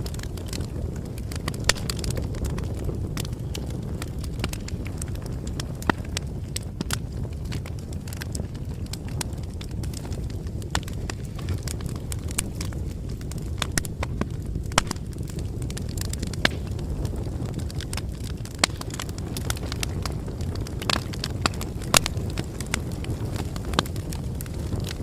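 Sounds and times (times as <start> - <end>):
bonfire popping and snapping: 0.0 - 25.0
flames rumbling: 0.0 - 25.0.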